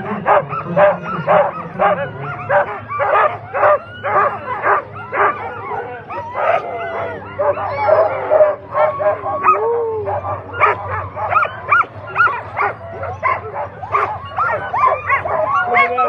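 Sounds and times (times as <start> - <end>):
sled dogs barking and yipping: 0.0 - 16.0.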